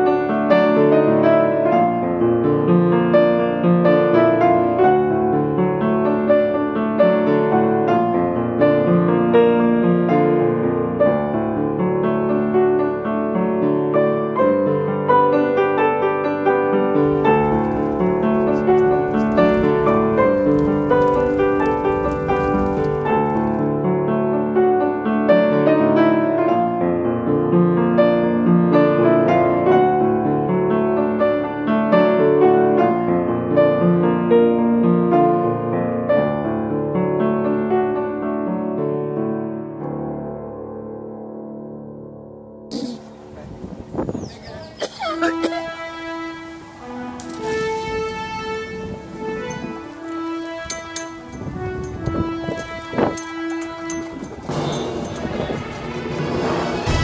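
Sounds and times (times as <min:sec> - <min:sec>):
piano music: 0:00.0 - 0:43.8, 0:44.8 - 0:57.0.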